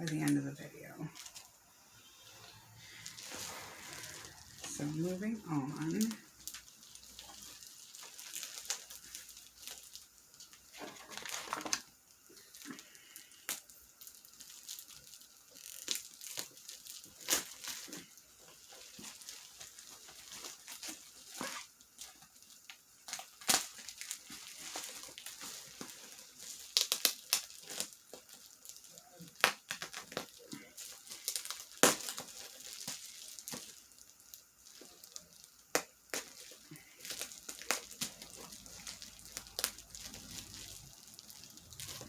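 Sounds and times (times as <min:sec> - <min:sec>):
packaging crinkling and tearing: 0:00.0 - 0:42.0.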